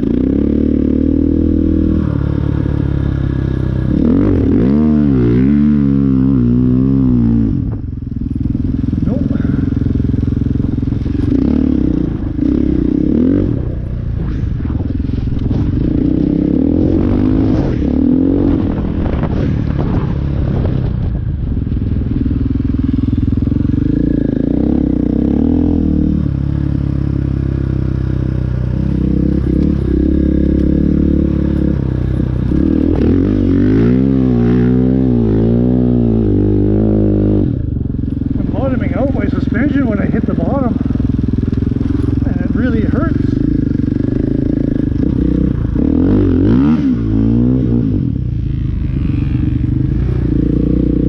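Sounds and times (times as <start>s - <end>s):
dirt bike engine revving: 0.0s - 21.3s, 22.1s - 51.0s.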